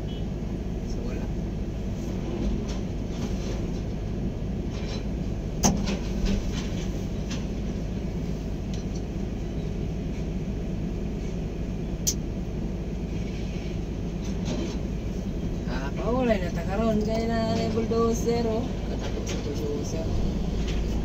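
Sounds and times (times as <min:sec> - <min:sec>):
diesel engine low hum: 0:00.0 - 0:21.0.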